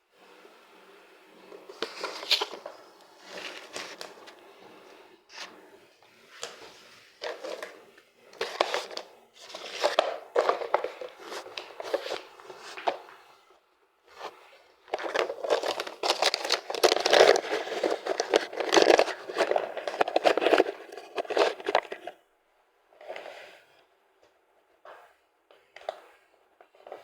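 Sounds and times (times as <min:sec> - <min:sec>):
rustling and crinkling: 0:01.4 - 0:13.4, 0:14.1 - 0:22.2, 0:24.8 - 0:27.0.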